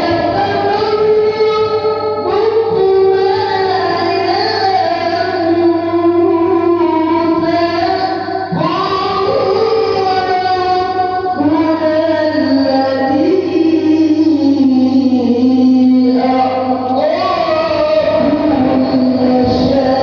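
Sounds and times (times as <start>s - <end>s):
child reciting melodically: 0.0s - 20.0s.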